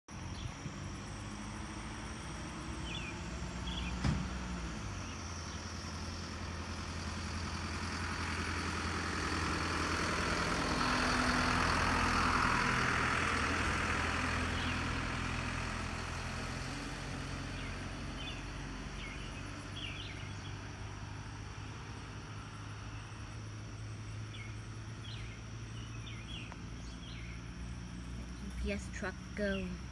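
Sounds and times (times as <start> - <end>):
insects chirping faintly: 0.1 - 15.0, 16.1 - 29.9
truck engine idling: 2.8 - 29.9.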